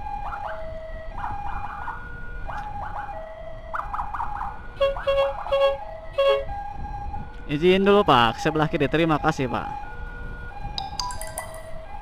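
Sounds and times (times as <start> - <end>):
siren yelp sweeps: 0.0 - 10.8
two-tone siren wail: 0.0 - 12.0.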